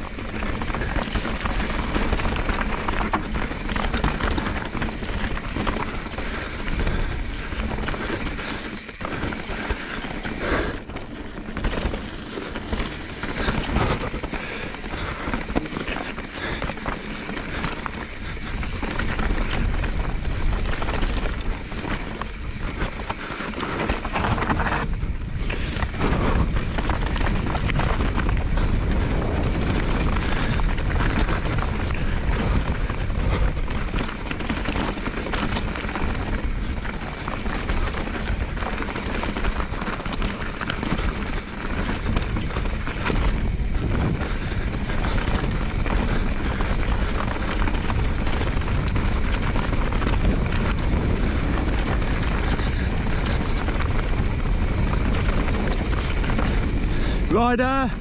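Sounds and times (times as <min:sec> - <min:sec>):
bike rattling over stones: 0:00.0 - 0:58.0
tyres crunching on gravel: 0:00.0 - 0:58.0
wind buffeting microphone: 0:00.0 - 0:58.0.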